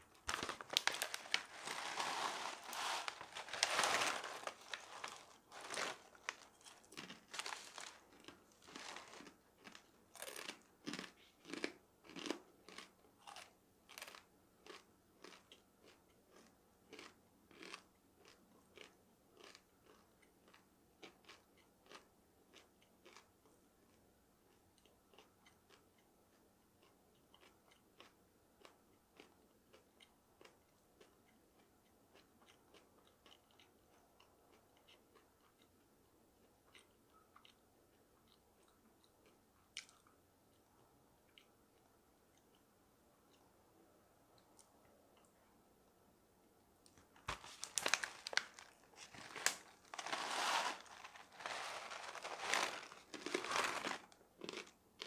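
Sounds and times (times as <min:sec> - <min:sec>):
chewing crunchy food: 0:00.1 - 0:35.8, 0:36.4 - 0:40.7, 0:47.2 - 0:54.8.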